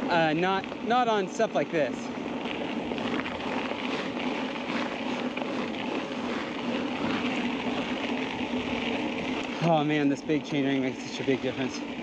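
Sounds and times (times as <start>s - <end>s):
bicycle tyres crunching on gravel: 0.0s - 12.0s.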